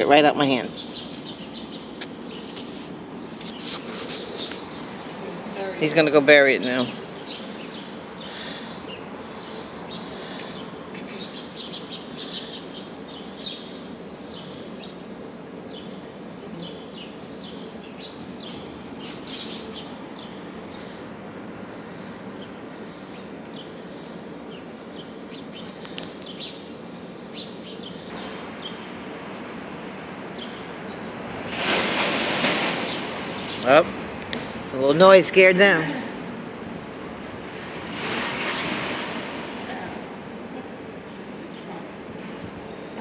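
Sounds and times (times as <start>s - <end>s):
sparrows chirping: 0.0s - 43.0s
steady background noise: 0.0s - 43.0s.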